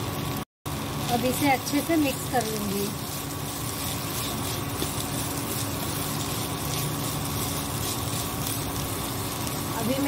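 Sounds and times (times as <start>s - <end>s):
spatula scraping frying food: 1.0s - 10.0s.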